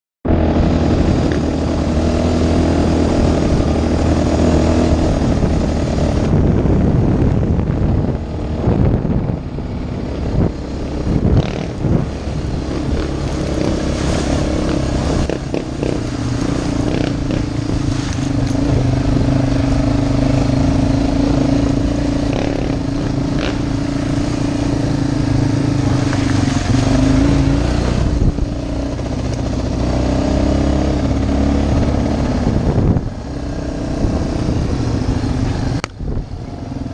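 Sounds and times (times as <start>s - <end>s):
off-road vehicle engine: 0.3s - 36.9s.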